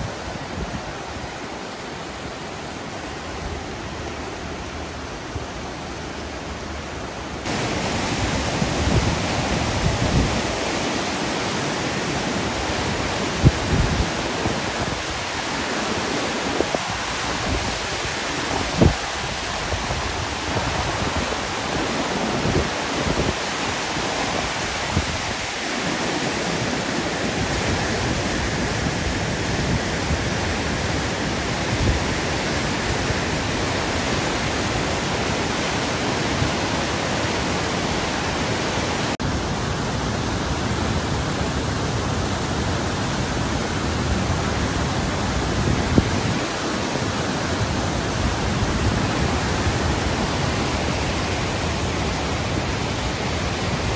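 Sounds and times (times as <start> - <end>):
water rushing through rapids: 0.0 - 53.9.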